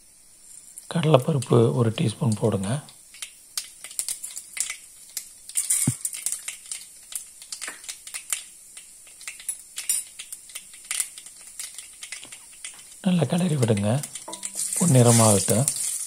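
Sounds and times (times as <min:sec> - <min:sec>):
seeds crackling in hot oil: 0:00.0 - 0:16.0.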